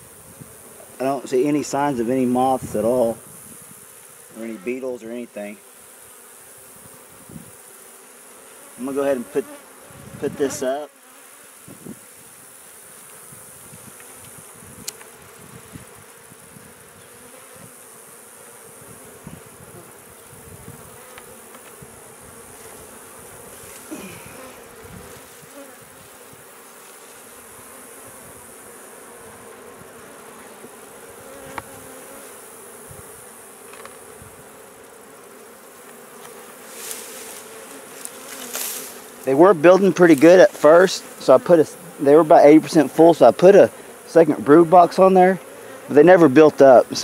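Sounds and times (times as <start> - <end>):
honey bees buzzing: 0.0 - 47.0.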